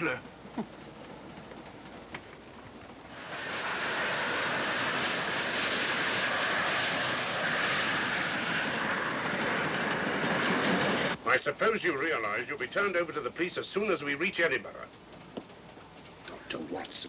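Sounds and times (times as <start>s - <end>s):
steam train rushing rumble: 0.0s - 17.0s.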